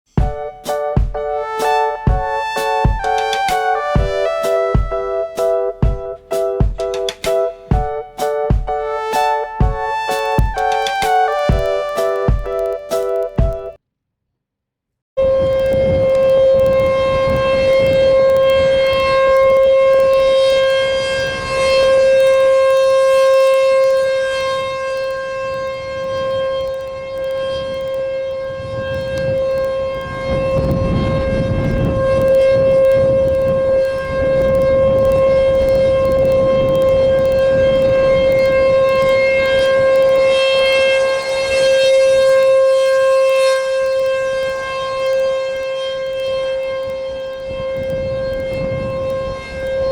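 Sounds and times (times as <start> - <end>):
loud warning siren: 0.2 - 13.8, 15.2 - 49.9.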